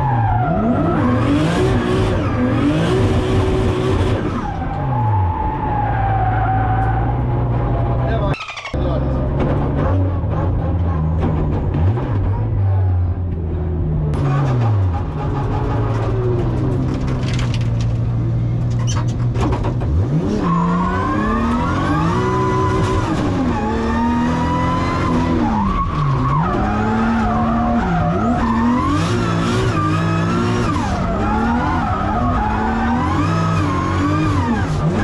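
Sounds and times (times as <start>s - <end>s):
car engine revving: 0.0s - 17.2s, 18.6s - 35.0s
tyres skidding: 0.0s - 35.0s.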